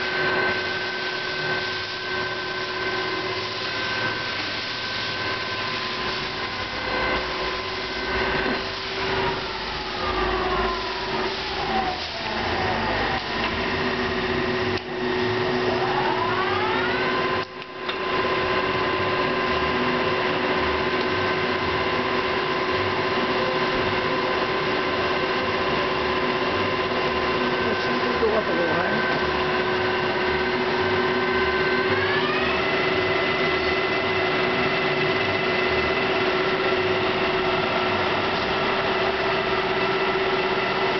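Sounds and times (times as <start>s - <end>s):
lathe whining: 0.0s - 40.9s.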